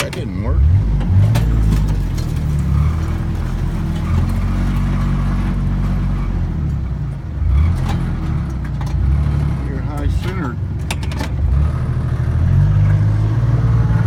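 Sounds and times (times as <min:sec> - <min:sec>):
vehicle engine running under load: 0:00.0 - 0:14.0.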